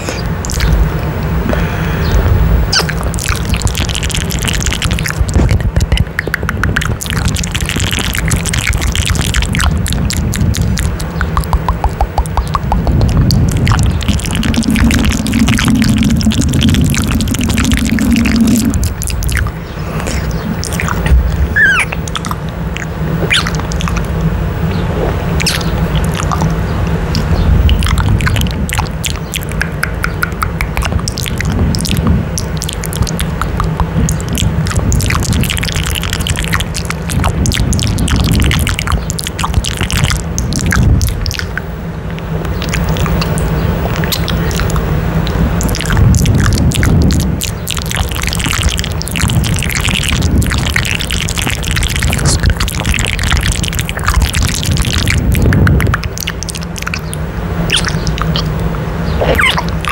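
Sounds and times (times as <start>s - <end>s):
kissing and lip smacks: 0.0s - 0.8s, 2.7s - 24.2s, 25.0s - 59.9s
steady low hum: 0.0s - 59.9s.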